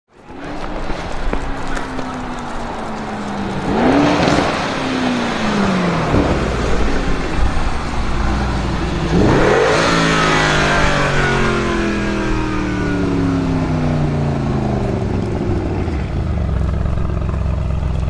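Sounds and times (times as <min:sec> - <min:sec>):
car engine revving: 0:00.2 - 0:18.0.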